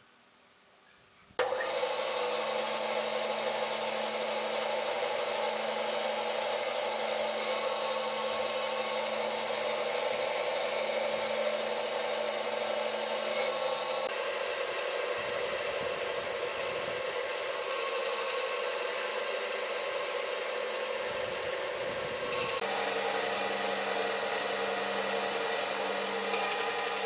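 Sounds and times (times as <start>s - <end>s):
power tool cutting wood: 1.4s - 27.0s.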